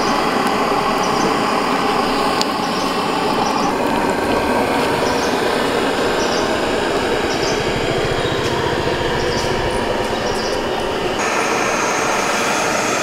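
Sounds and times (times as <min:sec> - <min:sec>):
motor engine running: 0:00.0 - 0:13.0
street noise: 0:00.0 - 0:13.0.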